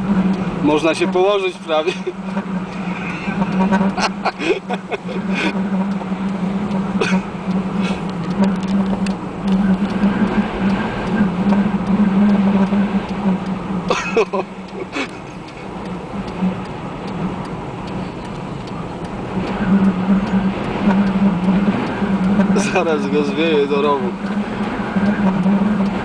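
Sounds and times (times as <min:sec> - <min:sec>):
snow ticking on windshield: 0:00.0 - 0:26.0
steady low hum: 0:00.0 - 0:26.0
wind buffeting car: 0:00.0 - 0:26.0.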